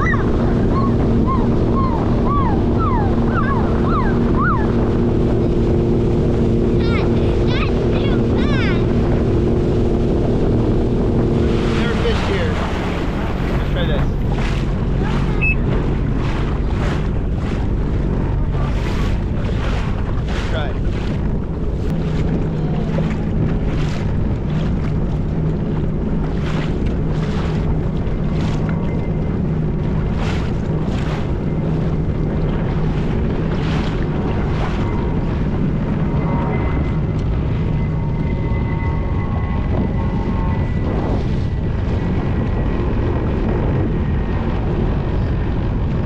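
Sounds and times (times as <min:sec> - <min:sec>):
jet ski engine hum: 0:00.0 - 0:46.0
water rushing: 0:00.0 - 0:46.0
wind on microphone: 0:00.0 - 0:46.0.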